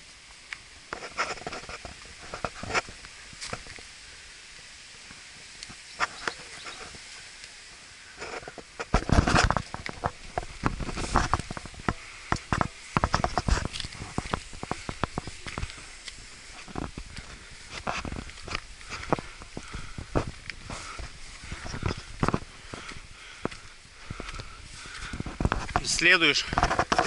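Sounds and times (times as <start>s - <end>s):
footsteps on leaves and concrete: 0.2s - 27.0s.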